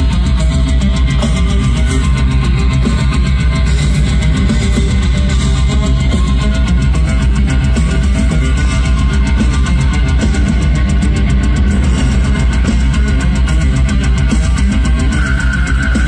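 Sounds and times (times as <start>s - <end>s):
distorted electric guitars: 0.0s - 16.0s
rapid drumming: 0.0s - 16.0s.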